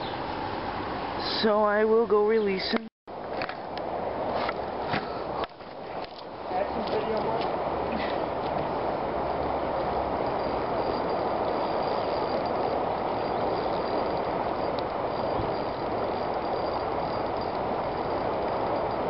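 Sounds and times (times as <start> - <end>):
creek water rushing: 3.1 - 19.0.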